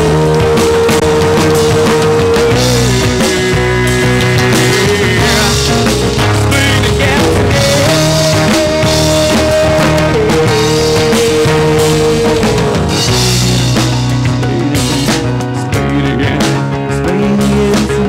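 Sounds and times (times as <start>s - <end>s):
held lead melody note: 0.0s - 16.3s
rock band playing: 0.0s - 18.0s.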